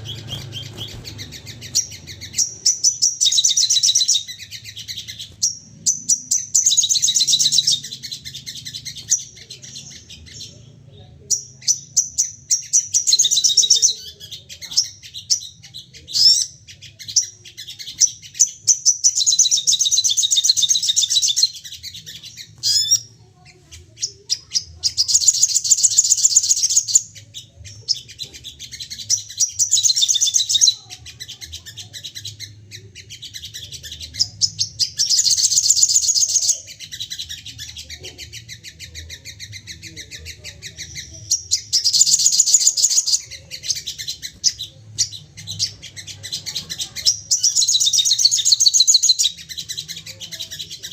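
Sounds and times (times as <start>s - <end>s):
songbird trills and chattering: 0.0s - 50.9s.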